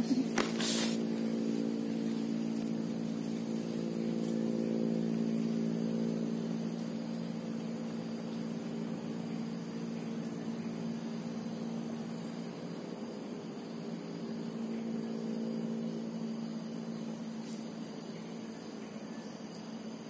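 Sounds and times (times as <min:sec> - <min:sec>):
motor drone: 0:00.0 - 0:20.0.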